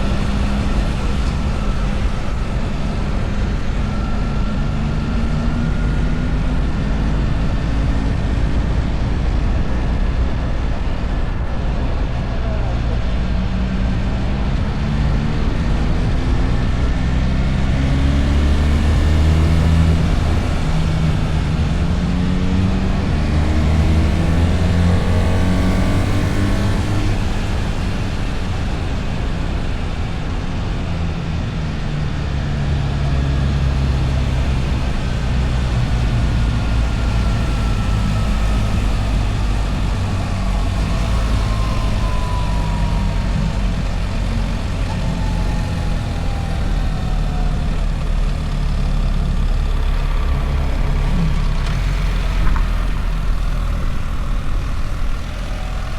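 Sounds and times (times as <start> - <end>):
wind and road noise: 0.0 - 55.9.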